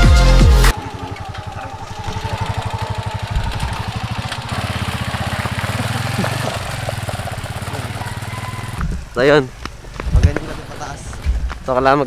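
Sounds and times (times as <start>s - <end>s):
motorcycle engine running: 0.6s - 11.2s.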